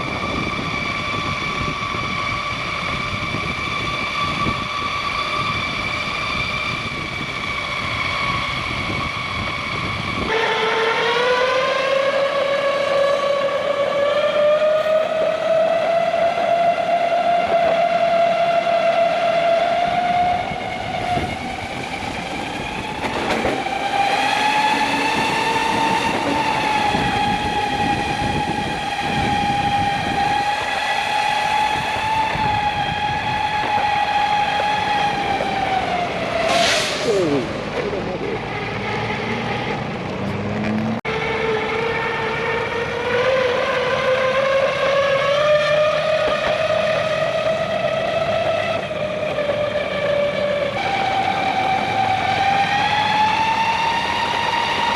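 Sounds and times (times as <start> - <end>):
wind and wheels rumbling: 0.0 - 54.9.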